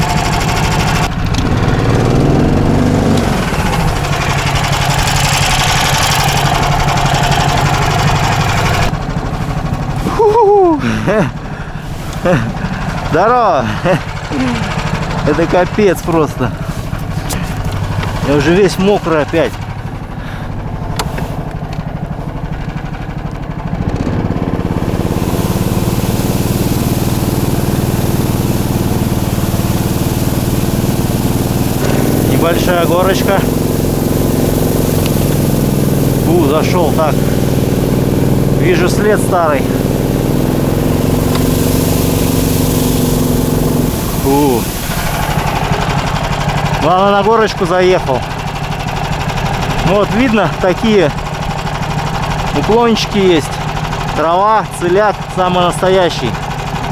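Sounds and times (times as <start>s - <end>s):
rushing hiss: 0.0s - 56.9s
small engine running hard: 0.0s - 56.9s.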